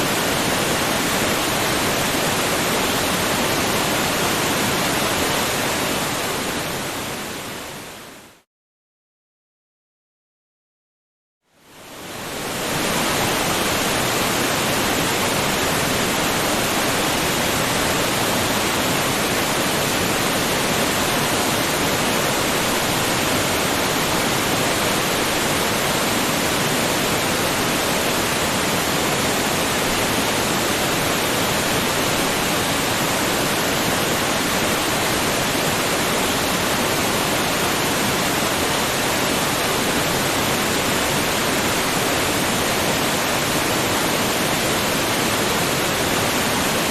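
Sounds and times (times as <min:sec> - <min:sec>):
waterfall rushing: 0:00.0 - 0:07.9, 0:11.8 - 0:46.9.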